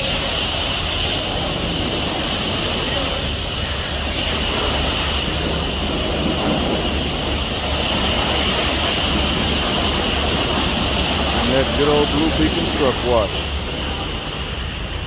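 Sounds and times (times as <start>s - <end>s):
water spray hiss: 0.0s - 15.0s.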